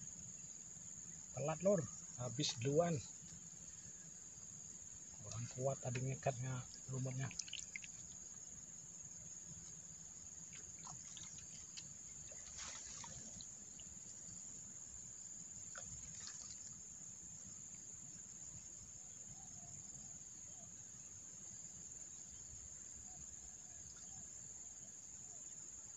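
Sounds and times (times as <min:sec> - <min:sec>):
crickets droning: 0:00.0 - 0:25.9.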